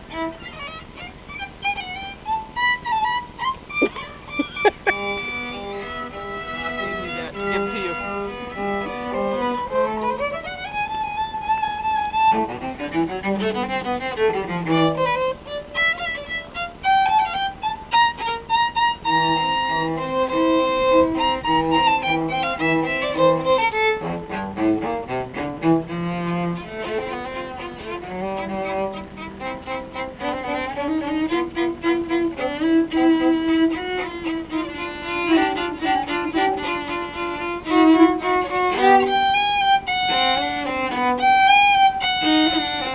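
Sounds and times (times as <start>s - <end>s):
cello: 0.0s - 42.9s
violin: 0.0s - 42.9s.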